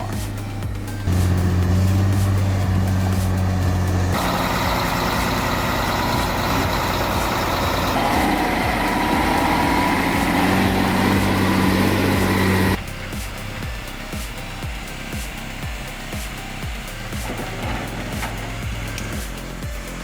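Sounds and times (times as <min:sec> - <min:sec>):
truck diesel engine under load: 0:00.0 - 0:20.0.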